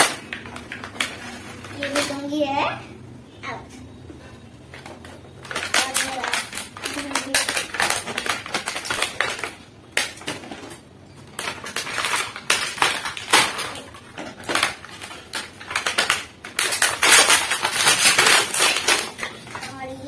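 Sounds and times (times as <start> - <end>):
plastic packaging crinkling: 0.0 - 2.4, 4.8 - 20.0.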